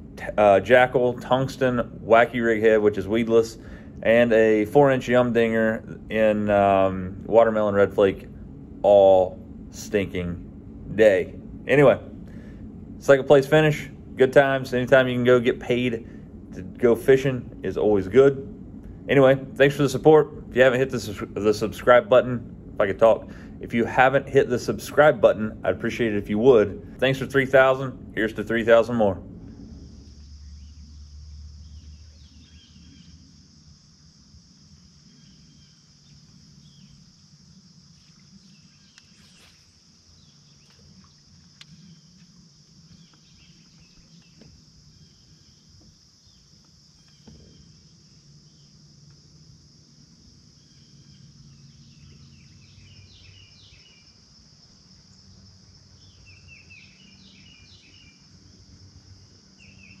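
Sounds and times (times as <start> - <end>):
birds chirping: 0.0 - 48.9, 50.2 - 60.0
crickets droning: 0.0 - 60.0
low steady hum: 0.0 - 60.0.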